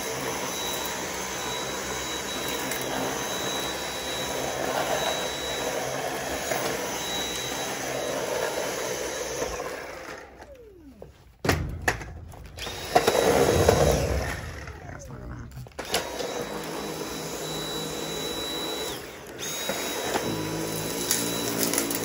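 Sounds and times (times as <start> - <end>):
vacuum cleaner whine: 0.0 - 22.0.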